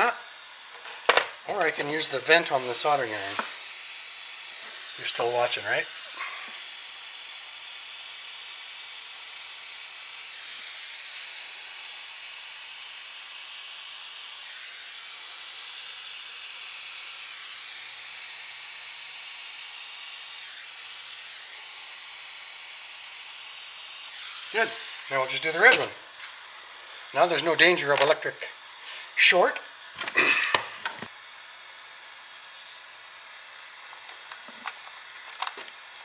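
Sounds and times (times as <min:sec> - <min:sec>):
soldering iron gas hissing: 0:00.0 - 0:36.0.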